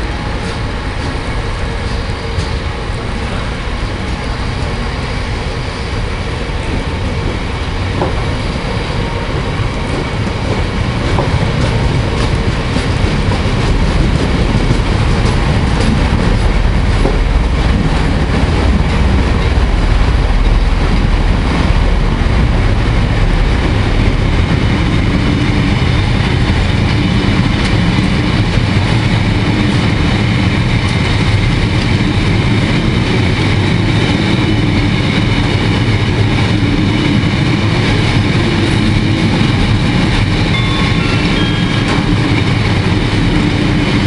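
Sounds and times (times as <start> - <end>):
freight train rumbling: 0.0 - 44.0
wheels clattering on rails: 6.0 - 44.0.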